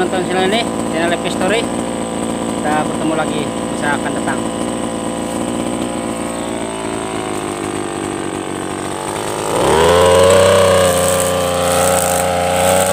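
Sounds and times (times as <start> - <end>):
brush cutter engine idling and revving: 0.0 - 12.9.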